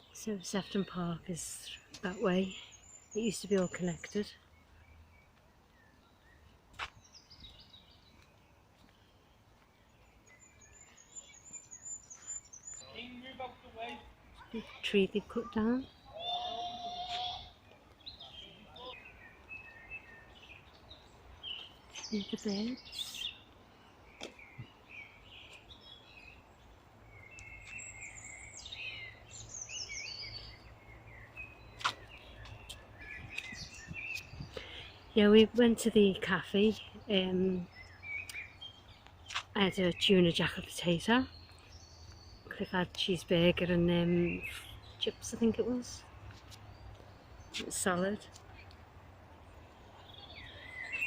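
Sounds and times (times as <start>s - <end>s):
faint birdsong chirps: 0.0s - 51.0s.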